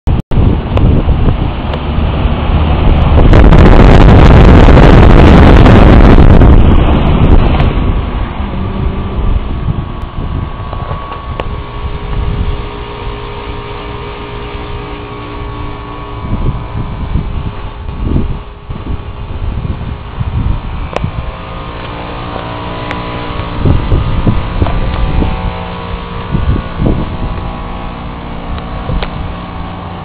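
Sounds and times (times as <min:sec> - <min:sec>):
heat pump fan humming: 0:00.1 - 0:30.0
wind buffeting microphone: 0:00.1 - 0:30.0.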